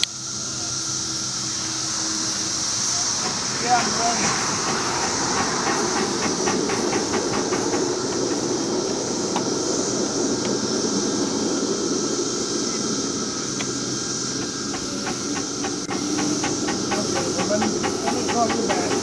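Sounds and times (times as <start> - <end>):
steam locomotive hissing: 0.0 - 19.0
wheels clicking over rails: 1.5 - 19.0.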